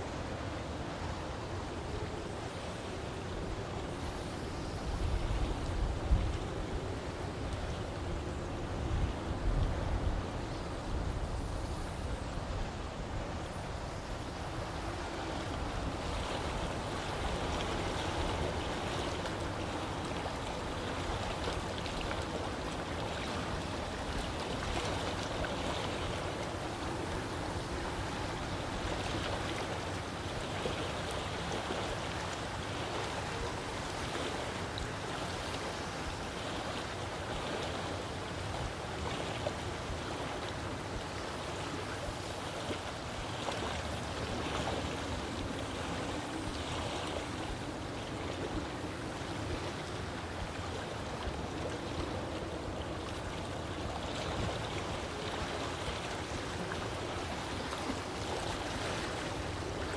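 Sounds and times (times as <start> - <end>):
lake water rushing: 0.0 - 59.9.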